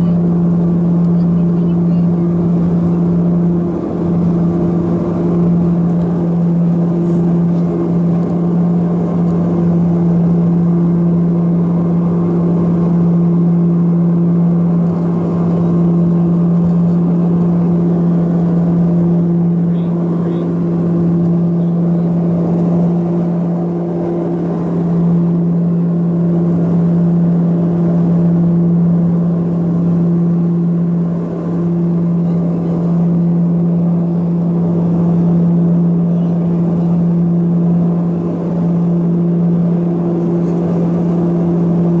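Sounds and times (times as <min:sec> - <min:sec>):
steady engine drone: 0:00.0 - 0:42.0.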